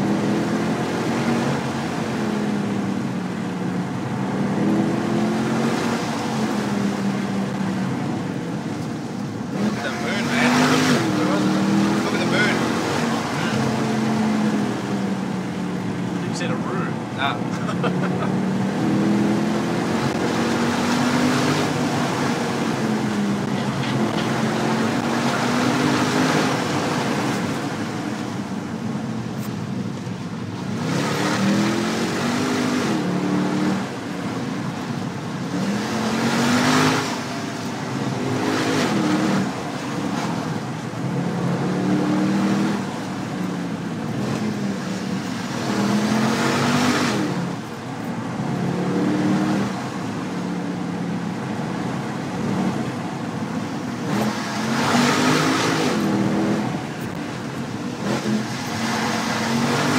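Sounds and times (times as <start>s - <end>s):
car engine revving through gears: 0.0s - 59.9s
tyre and road noise: 0.0s - 59.9s.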